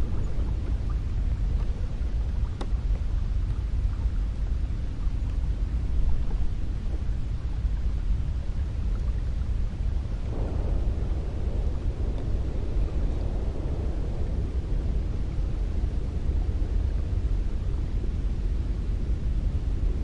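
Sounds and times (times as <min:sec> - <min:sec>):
cold wind blowing: 0:00.0 - 0:20.0.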